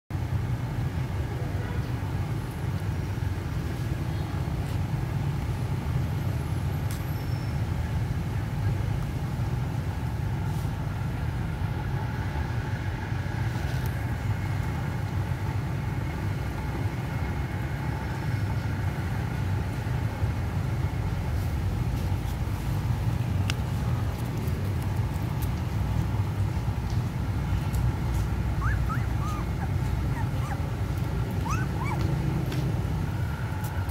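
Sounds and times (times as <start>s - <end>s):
low background rumble: 0.2s - 33.9s.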